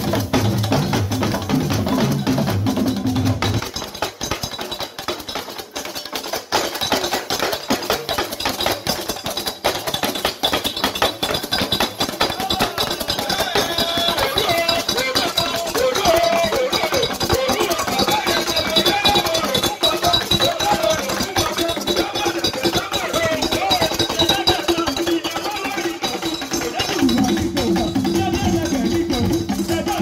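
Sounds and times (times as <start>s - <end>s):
drum ensemble playing fast: 0.0s - 30.0s.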